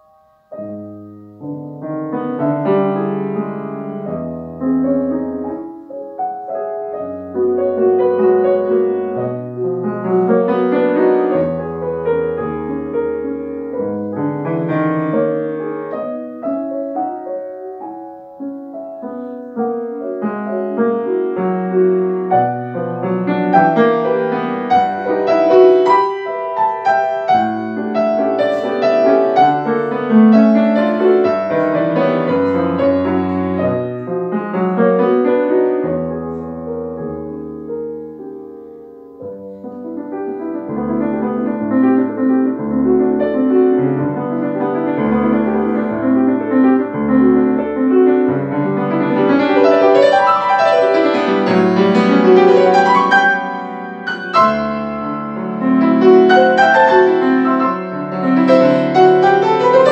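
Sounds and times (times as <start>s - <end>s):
solo grand piano: 0.0s - 59.9s.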